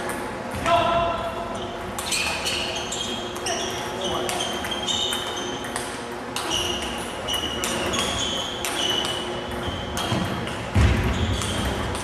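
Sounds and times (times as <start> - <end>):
table tennis ball bouncing: 1.8 - 12.0.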